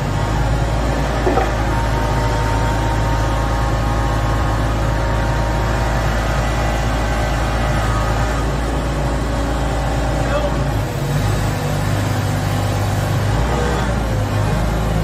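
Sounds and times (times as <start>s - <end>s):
forklift engine humming: 0.0s - 15.0s.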